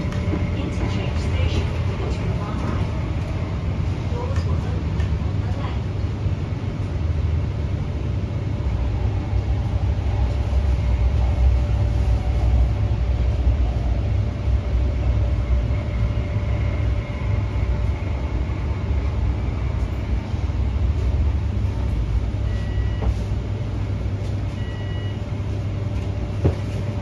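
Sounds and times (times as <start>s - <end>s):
train interior rumble: 0.0s - 27.0s.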